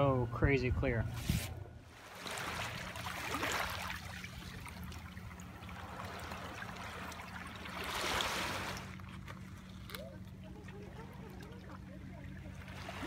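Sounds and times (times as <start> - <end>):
seawater washing among rocks: 1.2 - 13.0.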